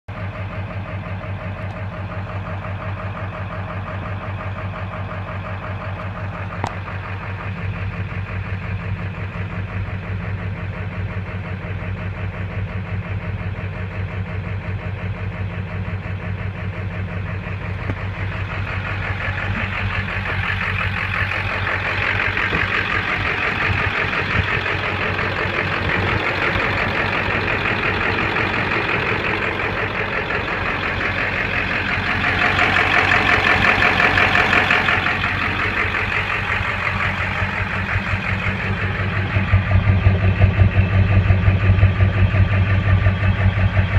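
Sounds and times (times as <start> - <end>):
diesel engine rough idle: 0.0 - 43.9.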